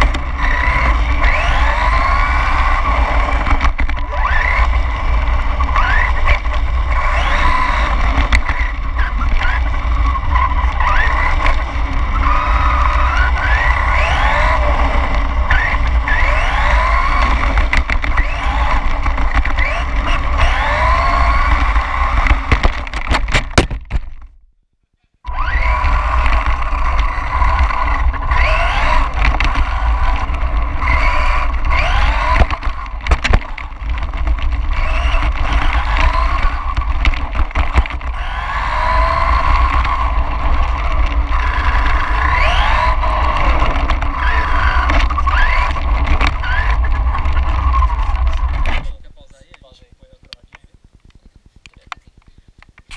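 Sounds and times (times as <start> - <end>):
rc car motor whining: 0.0 - 23.6, 25.3 - 49.0
tyres rumbling on asphalt: 0.0 - 24.4, 25.3 - 52.9.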